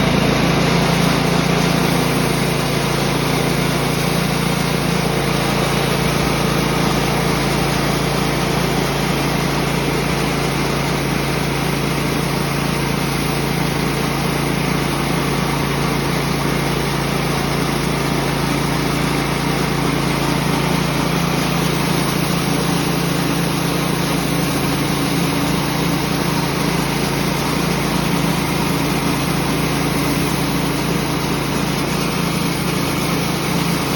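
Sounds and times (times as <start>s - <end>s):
small gasoline engine running: 0.0s - 33.9s.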